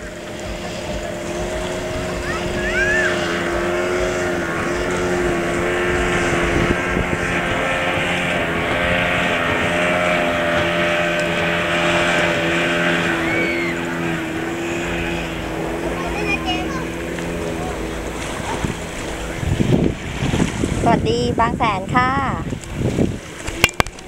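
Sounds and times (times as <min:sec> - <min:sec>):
motorboat engine droning: 0:00.0 - 0:24.0
wind and water rushing: 0:00.0 - 0:24.0.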